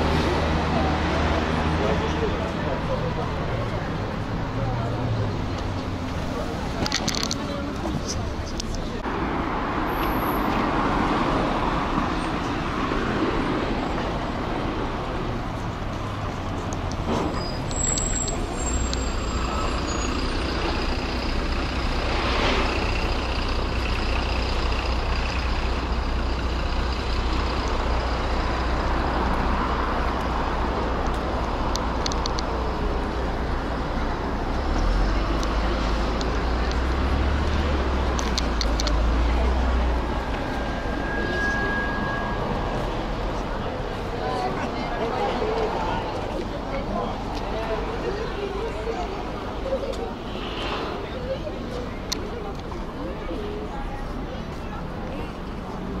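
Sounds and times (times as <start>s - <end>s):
busy street traffic: 0.0s - 56.0s.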